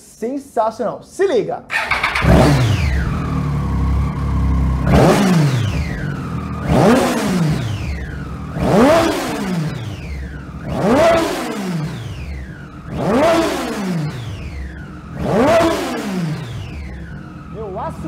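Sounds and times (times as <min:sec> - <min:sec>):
motorcycle engine revving: 0:01.7 - 0:18.0.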